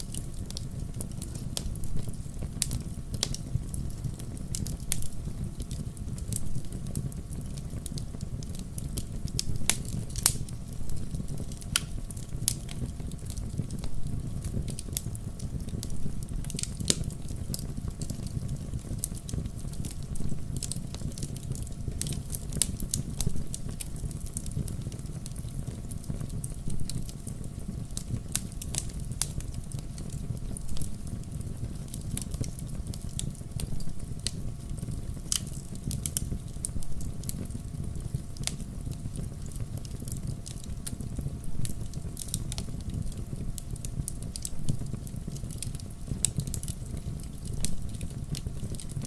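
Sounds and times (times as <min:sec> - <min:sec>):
campfire flame rumble: 0:00.0 - 0:49.0
fire crackles and pops: 0:00.0 - 0:49.0.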